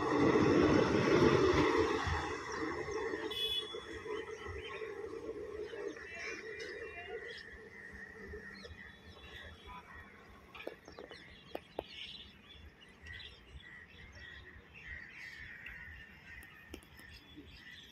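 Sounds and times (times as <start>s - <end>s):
birds chirping: 2.4s - 17.9s.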